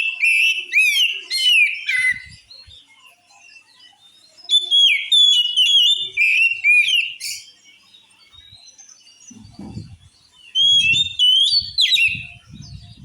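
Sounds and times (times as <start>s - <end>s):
bird singing whistled notes: 0.0s - 13.0s
faint bird chirps: 0.0s - 13.0s.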